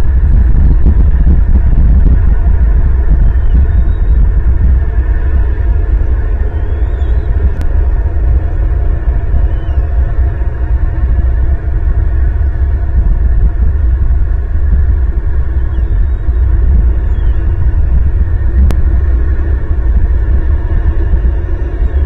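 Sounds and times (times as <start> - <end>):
faint steady hum: 0.0 - 22.0
low rumble: 0.0 - 22.0.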